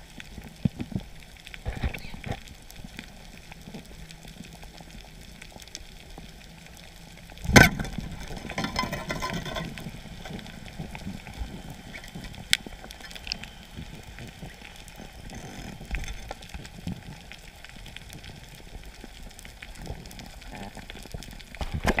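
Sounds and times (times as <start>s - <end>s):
reef crackle: 0.0s - 22.0s
small clicks: 0.1s - 22.0s.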